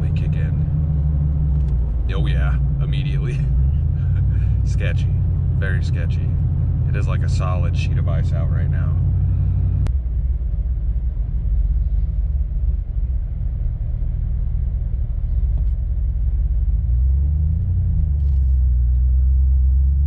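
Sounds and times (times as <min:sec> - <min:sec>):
truck engine rumbling: 0:00.0 - 0:20.0
tyres on snowy road: 0:00.0 - 0:20.0.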